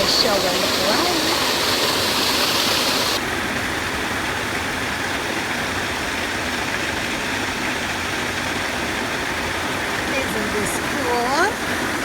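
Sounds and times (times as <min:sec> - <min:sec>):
water pouring from outdoor shower: 0:00.0 - 0:12.0.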